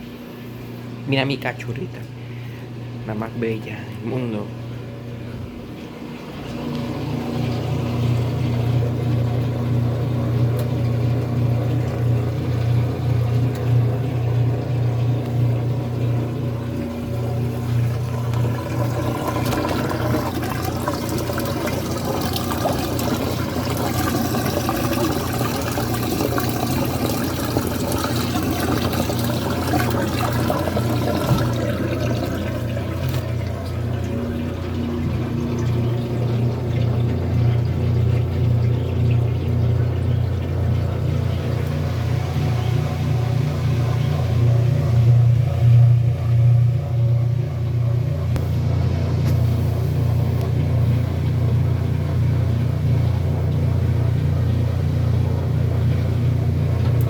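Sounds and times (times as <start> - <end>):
washing machine motor hum: 0.0 - 57.0
water churning and sloshing: 1.8 - 57.0.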